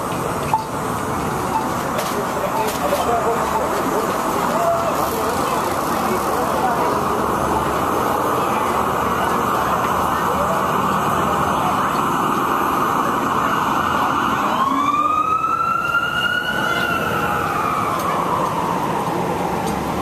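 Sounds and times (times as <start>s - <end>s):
street noise: 0.0s - 20.0s
emergency siren wailing: 2.3s - 20.0s.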